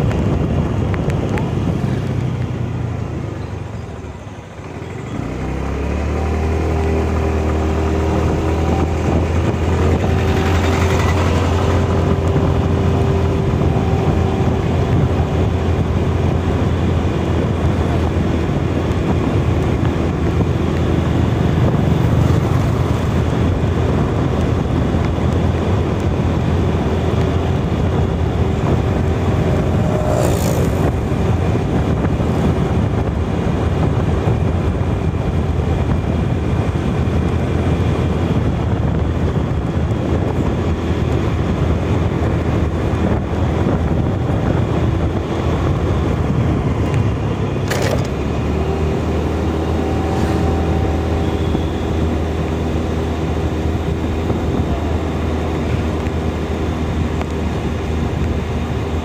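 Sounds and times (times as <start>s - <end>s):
scooter engine running: 0.0s - 59.0s
wind and road noise: 0.0s - 59.0s.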